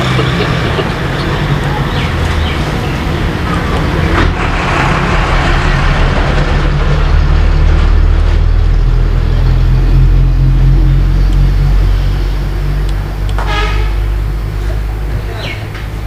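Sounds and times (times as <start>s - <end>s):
heavy vehicle engine humming: 0.0s - 16.0s.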